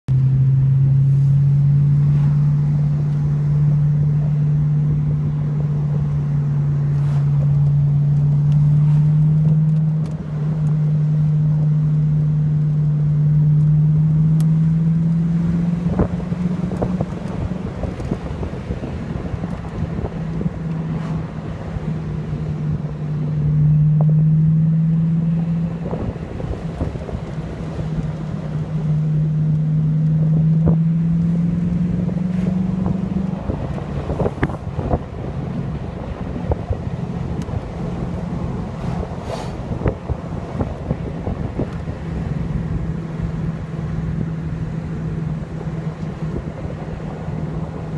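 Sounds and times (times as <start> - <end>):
car engine running: 0.1 - 47.9
road and wind noise: 0.1 - 47.9.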